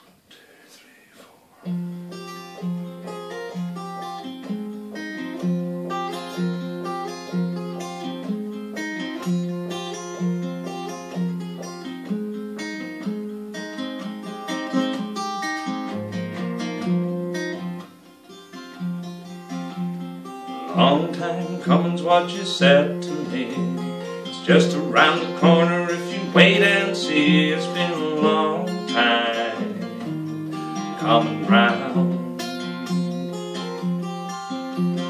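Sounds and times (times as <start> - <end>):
acoustic guitar playing: 1.6 - 35.0.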